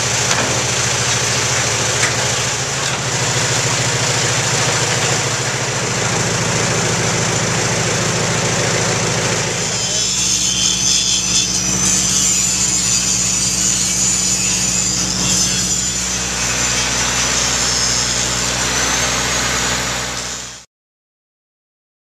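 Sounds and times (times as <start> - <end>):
angle grinder grinding steel: 0.0 - 20.6
generator engine drone: 0.0 - 20.6.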